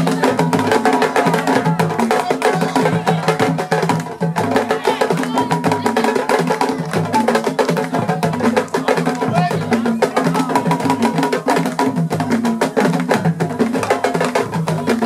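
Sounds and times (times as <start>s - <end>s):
hand drums playing fast rhythm: 0.0s - 15.0s.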